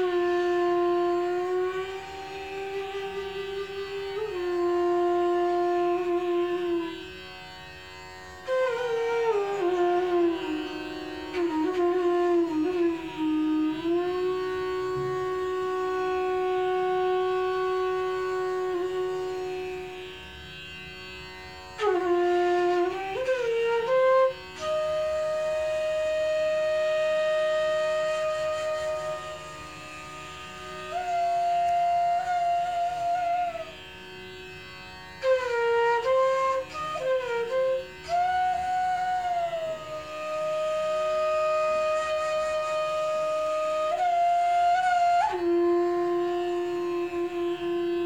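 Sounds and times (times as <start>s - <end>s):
bamboo flute solo: 0.0s - 7.4s, 8.3s - 20.1s, 21.7s - 34.2s, 35.2s - 48.0s.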